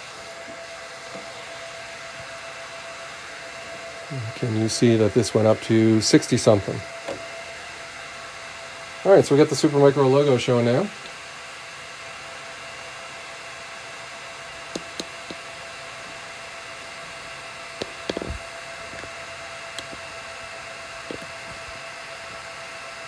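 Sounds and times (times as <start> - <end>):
server cooling fans whining: 0.0 - 23.0.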